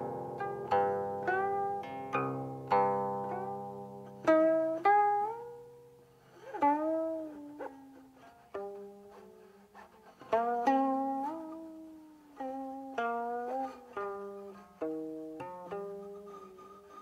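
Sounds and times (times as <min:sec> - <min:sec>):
zither plucked notes: 0:00.0 - 0:17.0.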